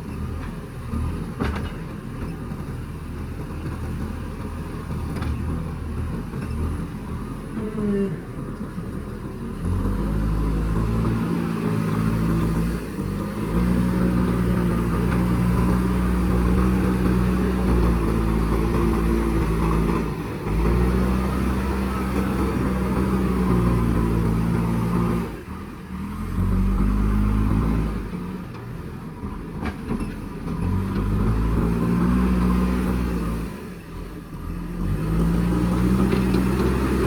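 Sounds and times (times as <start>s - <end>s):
diesel engine running under load: 0.0s - 37.0s.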